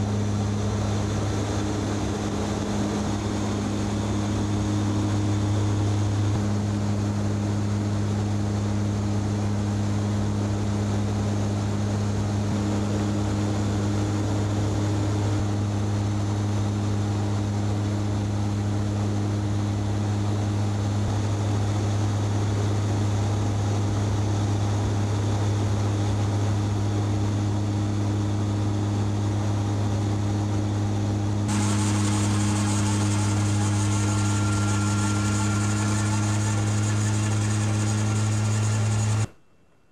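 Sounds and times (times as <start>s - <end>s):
airliner engine drone: 0.0s - 39.8s.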